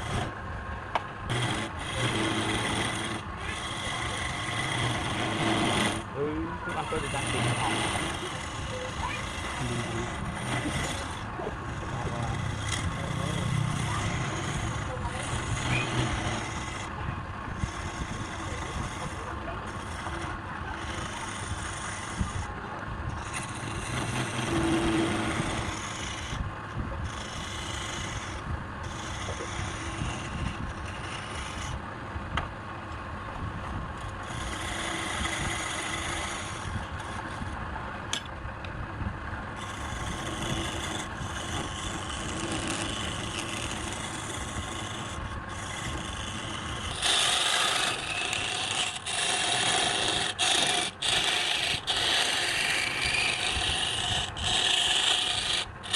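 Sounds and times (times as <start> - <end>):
wood scraped on a lathe: 0.0 - 31.9, 34.0 - 38.3, 39.4 - 55.9.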